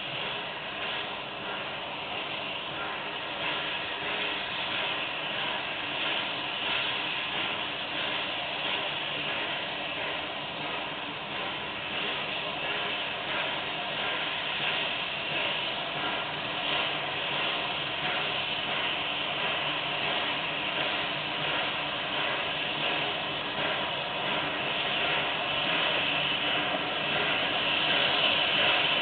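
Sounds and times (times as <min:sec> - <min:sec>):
steam hissing: 0:00.0 - 0:29.0
steam locomotive chuffing: 0:00.0 - 0:29.0.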